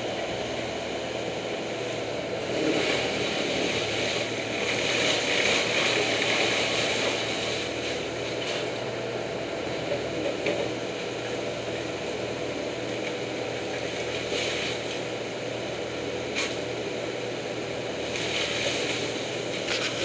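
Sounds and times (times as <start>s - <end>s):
wood chipper engine running: 0.0s - 20.0s.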